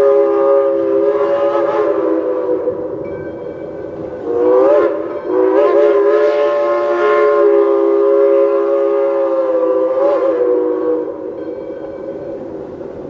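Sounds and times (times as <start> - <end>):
steam whistle chord: 0.0 - 13.0.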